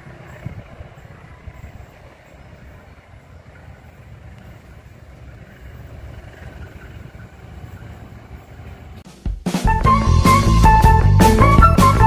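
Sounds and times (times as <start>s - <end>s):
diesel locomotive rumble: 0.0s - 9.0s, 9.7s - 12.0s.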